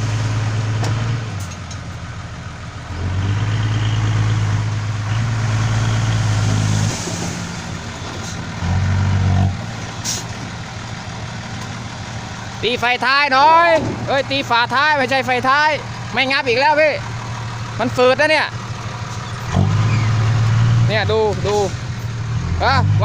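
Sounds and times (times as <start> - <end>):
dump truck diesel engine: 0.0 - 23.0.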